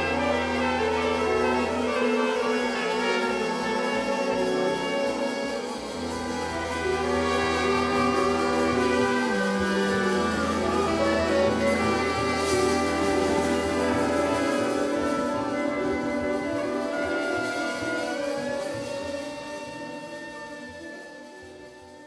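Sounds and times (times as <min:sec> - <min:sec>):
orchestra playing held chords: 0:00.0 - 0:22.0.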